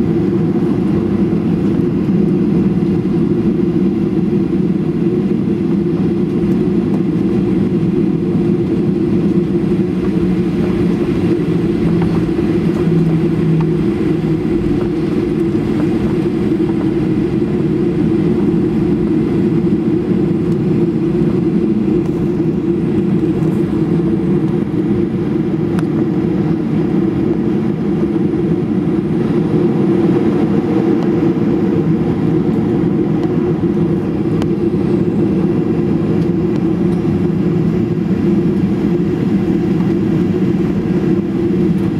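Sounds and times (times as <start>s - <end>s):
jet engine rumble inside cabin: 0.0s - 41.9s.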